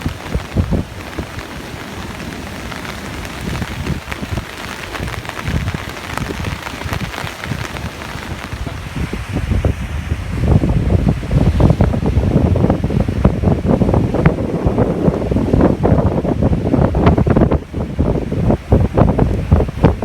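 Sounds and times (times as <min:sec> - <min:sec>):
strong gusty wind: 0:00.0 - 0:20.0
wind buffeting microphone: 0:00.0 - 0:20.0.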